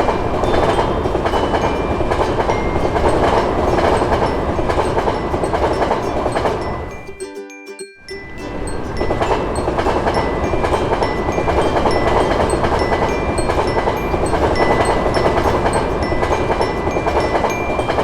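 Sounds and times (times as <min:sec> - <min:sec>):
train rumbling and rattling: 0:00.0 - 0:07.2, 0:08.2 - 0:18.0
crossing warning bell ringing: 0:00.0 - 0:18.0.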